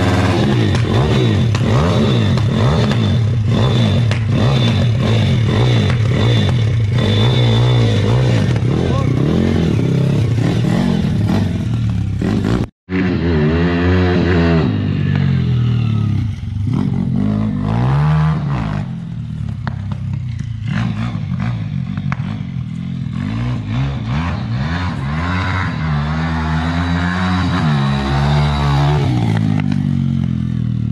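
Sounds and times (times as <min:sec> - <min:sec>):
motorbike engine revving: 0:00.0 - 0:30.9.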